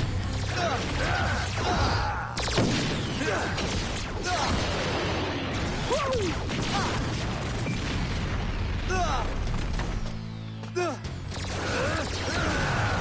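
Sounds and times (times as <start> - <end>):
energy blasts and explosions: 0.0 - 10.0, 11.3 - 13.0.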